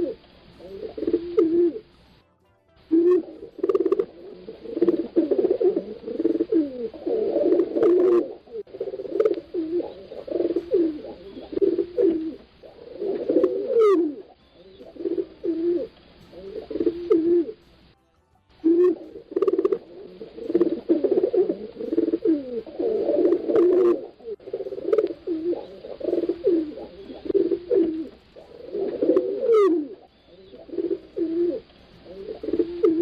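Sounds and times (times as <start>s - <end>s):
pigeons cooing: 0.0s - 2.1s, 2.9s - 17.7s, 18.6s - 33.0s.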